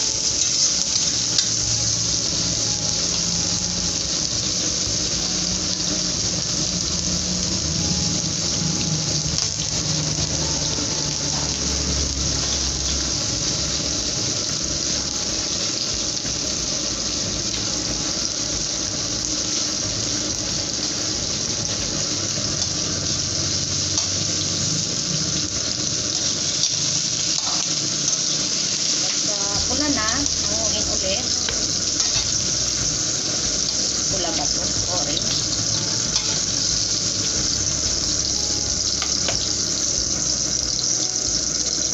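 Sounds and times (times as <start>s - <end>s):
shrimp sizzling in a wok: 0.0s - 41.9s.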